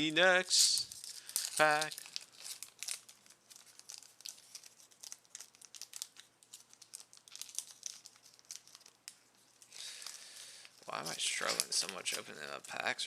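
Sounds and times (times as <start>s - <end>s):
wrapper crinkling and tearing: 0.5s - 13.0s.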